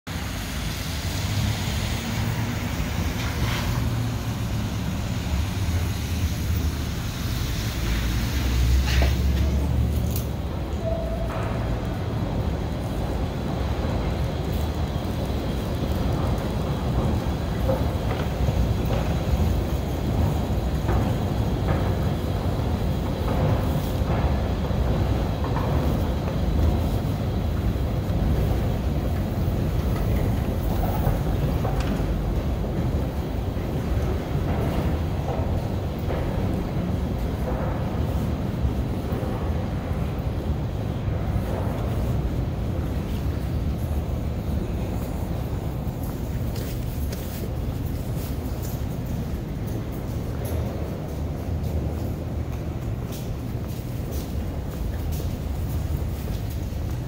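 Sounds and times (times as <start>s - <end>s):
low rumble of street traffic: 0.0s - 57.0s.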